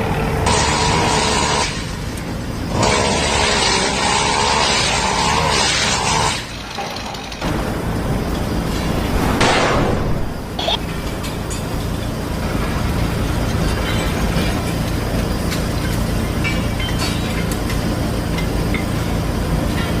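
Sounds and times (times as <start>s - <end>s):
large machine engine rumbling: 0.0s - 20.0s.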